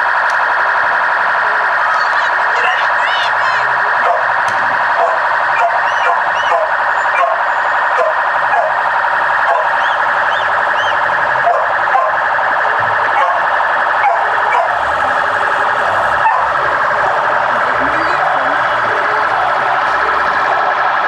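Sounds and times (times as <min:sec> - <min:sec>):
loud steady din: 0:00.0 - 0:21.0
siren sweeping up and down: 0:00.0 - 0:21.0.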